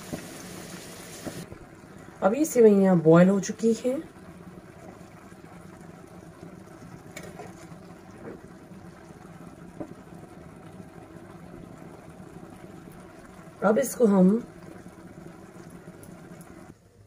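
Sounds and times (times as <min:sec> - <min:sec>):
stove flame humming: 0:00.0 - 0:17.0
water simmering: 0:00.0 - 0:17.0.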